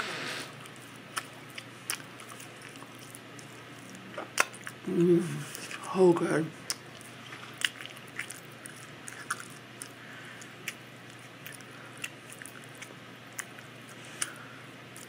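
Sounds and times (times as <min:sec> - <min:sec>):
mouth eating with lip smacks: 0:00.6 - 0:05.9, 0:06.6 - 0:15.0.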